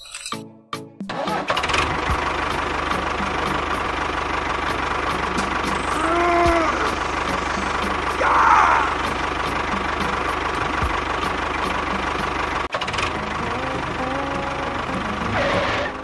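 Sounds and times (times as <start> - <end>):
small engine running: 1.1 - 16.0.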